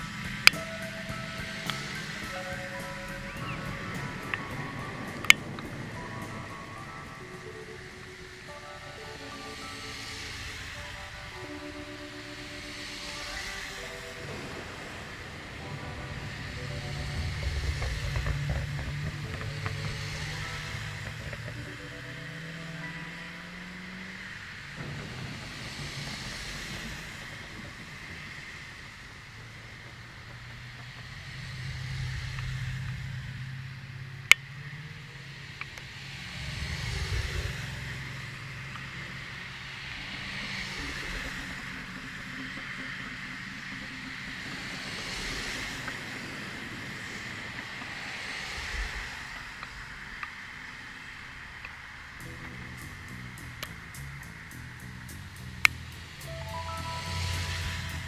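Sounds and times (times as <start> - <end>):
car engines humming: 0.0 - 58.0
cars passing by: 0.0 - 58.0.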